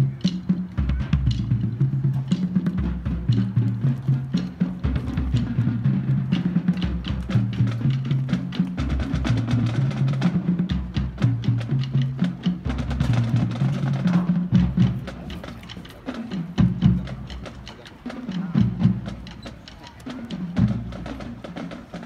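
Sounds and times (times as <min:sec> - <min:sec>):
pitched bass drums: 0:00.0 - 0:22.0
snare drum strokes: 0:00.0 - 0:22.0.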